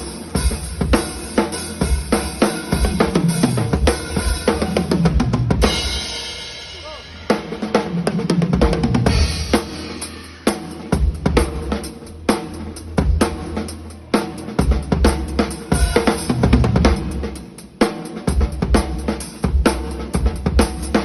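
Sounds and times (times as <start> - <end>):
drum kit groove: 0.0 - 21.0.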